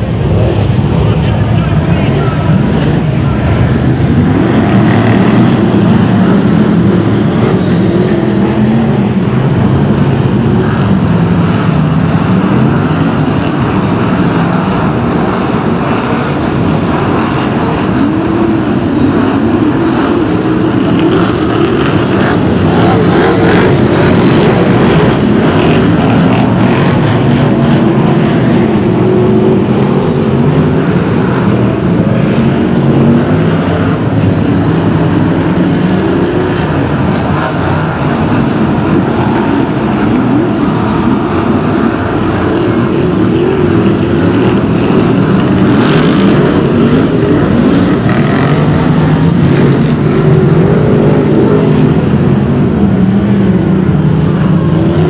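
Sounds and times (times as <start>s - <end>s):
racing car engines revving: 0.0s - 55.0s.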